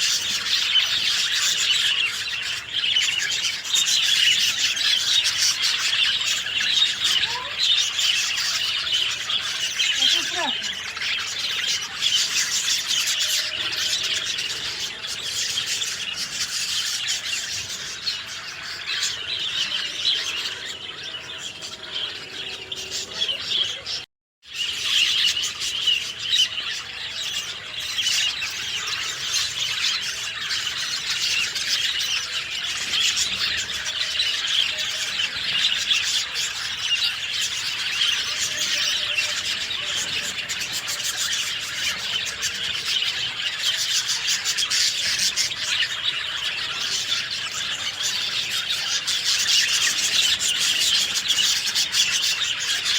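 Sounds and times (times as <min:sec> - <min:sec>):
birds chirping and twittering: 0:00.0 - 0:52.9.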